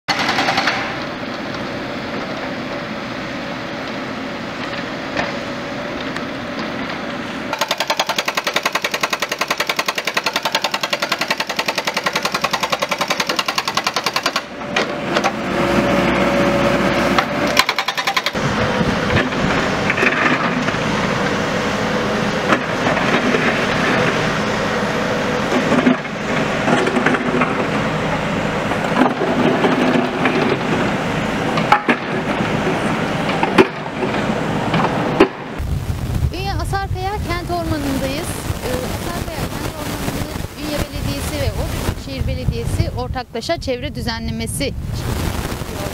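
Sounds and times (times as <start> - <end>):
diesel machinery engine running: 0.1 - 45.9.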